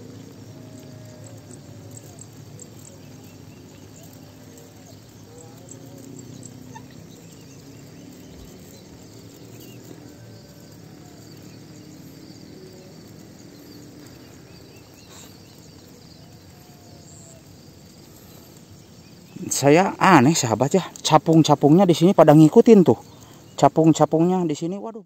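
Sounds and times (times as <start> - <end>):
faint insects chirping: 0.0 - 25.0
steady background hiss: 0.0 - 25.0.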